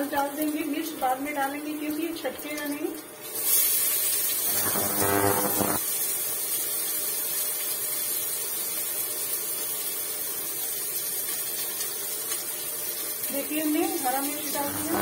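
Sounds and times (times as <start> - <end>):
oil sizzling in a cooker: 0.0 - 15.0.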